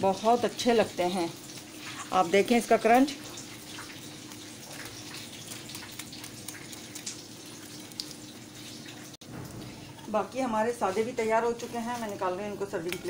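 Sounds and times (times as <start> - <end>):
hot oil frying: 0.0 - 13.0.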